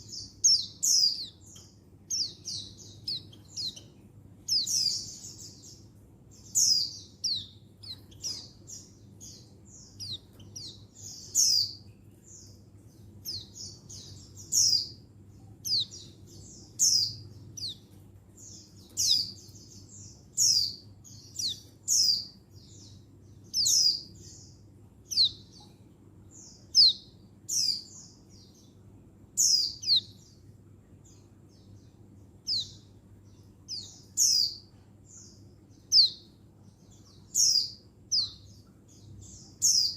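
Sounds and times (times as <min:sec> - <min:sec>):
bird chirping: 0:00.0 - 0:39.9
faint low hum: 0:00.0 - 0:39.9.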